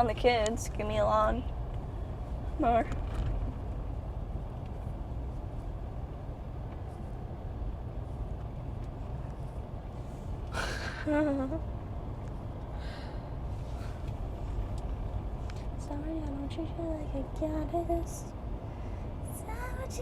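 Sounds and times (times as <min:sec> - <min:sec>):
car cabin road and engine rumble: 0:00.0 - 0:20.0.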